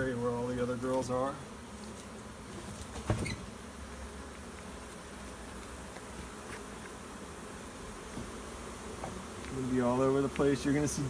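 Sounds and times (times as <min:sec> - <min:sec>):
honeybee swarm buzzing: 0:00.0 - 0:11.0.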